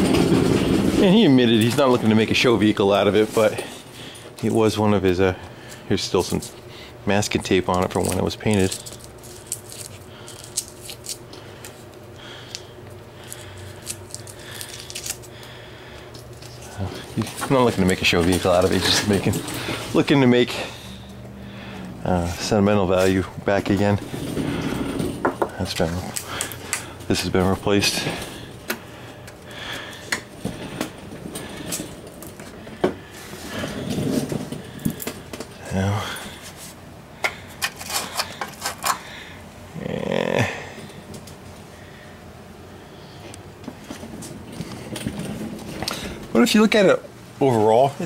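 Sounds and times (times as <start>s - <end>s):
quiet garage background: 0.0s - 48.0s
steady low hum: 0.0s - 48.0s.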